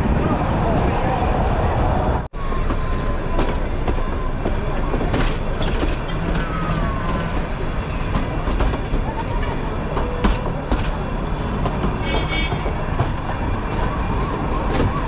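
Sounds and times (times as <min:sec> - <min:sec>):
train rumbling over track: 0:00.0 - 0:15.0
high wheel squeals: 0:02.4 - 0:15.0
wheels clicking over rail joints: 0:02.5 - 0:15.0.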